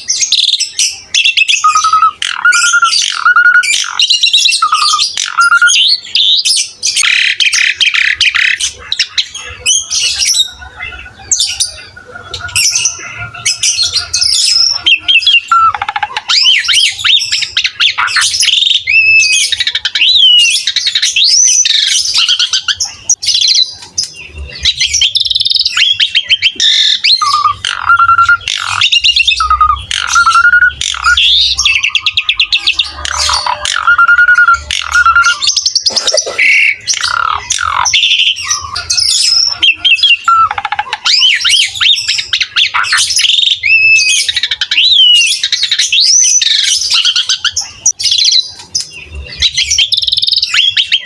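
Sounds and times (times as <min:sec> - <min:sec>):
starling singing: 0:00.0 - 0:51.0.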